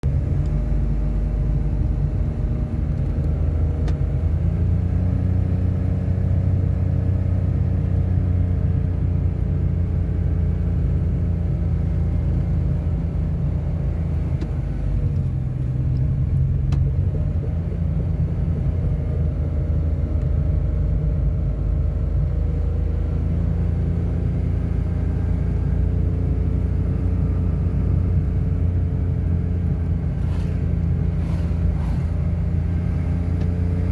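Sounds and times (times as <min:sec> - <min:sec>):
vehicle engine and road rumble: 0:00.0 - 0:33.9.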